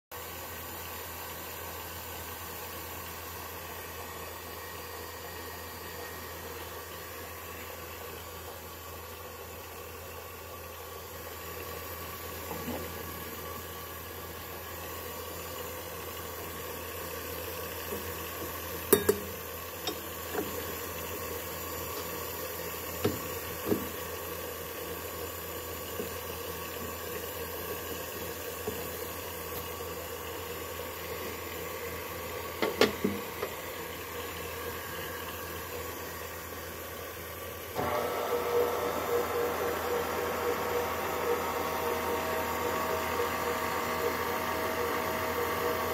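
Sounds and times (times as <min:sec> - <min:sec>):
mixer motor humming: 0:00.2 - 0:45.9.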